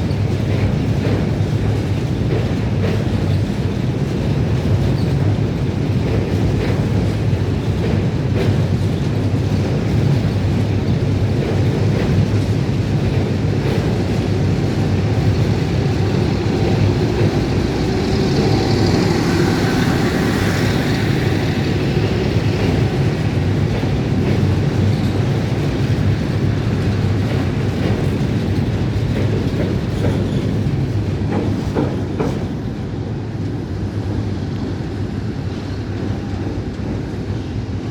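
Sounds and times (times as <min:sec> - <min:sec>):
wheels clacking over rail joints: 0:00.0 - 0:33.6
train wheels rumbling on bridge: 0:00.0 - 0:37.9.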